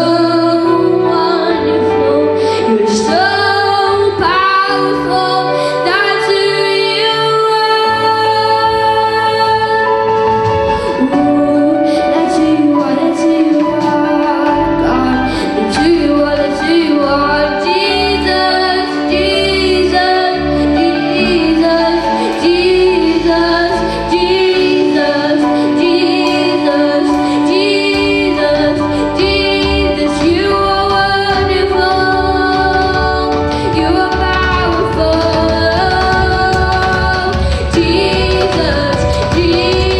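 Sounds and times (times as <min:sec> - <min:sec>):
instrumental accompaniment with bass: 0:00.0 - 0:39.9
woman singing: 0:00.0 - 0:39.9.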